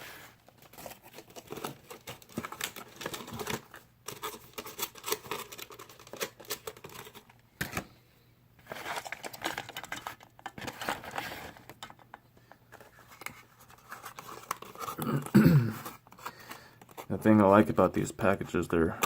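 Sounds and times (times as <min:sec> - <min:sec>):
plastic packaging crinkling: 0:00.3 - 0:07.4, 0:08.6 - 0:17.6.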